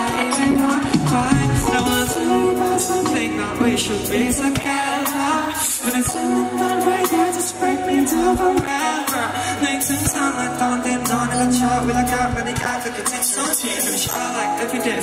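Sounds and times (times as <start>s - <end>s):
man singing through pa: 0.0s - 15.0s
pop music with drums and bass: 0.0s - 15.0s.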